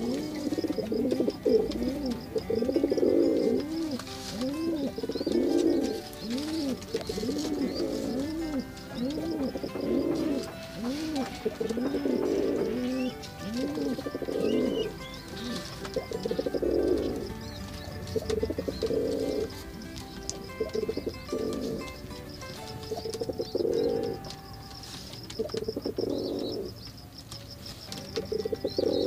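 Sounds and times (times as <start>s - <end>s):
pigeons cooing: 0.0s - 27.0s, 27.8s - 29.0s
faint high chirps: 0.0s - 29.0s.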